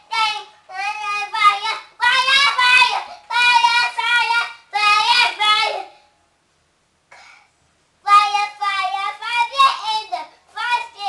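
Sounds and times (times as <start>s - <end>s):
child singing: 0.0s - 6.0s, 8.0s - 11.0s.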